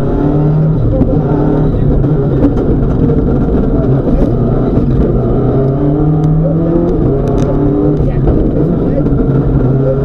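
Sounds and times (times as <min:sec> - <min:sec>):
rally car engine running hard: 0:00.0 - 0:10.0.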